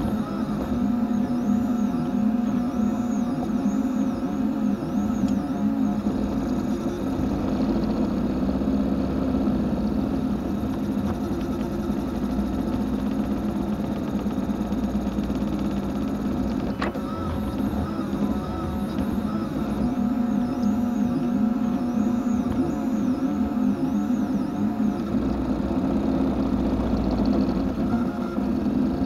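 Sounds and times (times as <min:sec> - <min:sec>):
steady mechanical hum: 0:00.0 - 0:29.0
stepper motors whining: 0:00.0 - 0:29.0.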